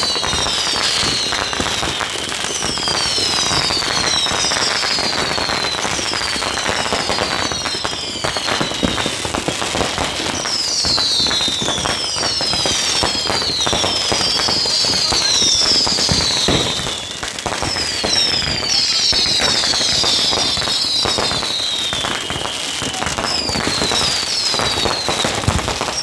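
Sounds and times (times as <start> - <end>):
fireworks popping and cracking: 0.0 - 26.0
whistling fireworks: 0.0 - 26.0.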